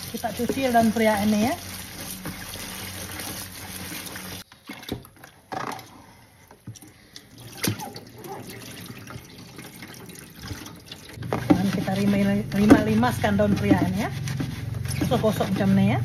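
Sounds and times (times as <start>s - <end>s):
tap running into basin: 0.0s - 5.8s, 6.6s - 15.2s.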